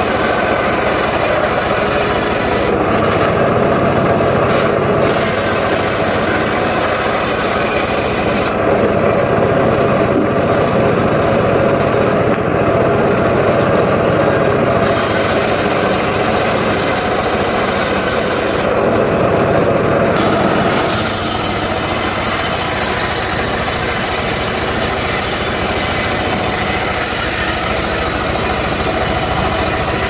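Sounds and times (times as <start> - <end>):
power saw engine running: 0.0 - 30.0.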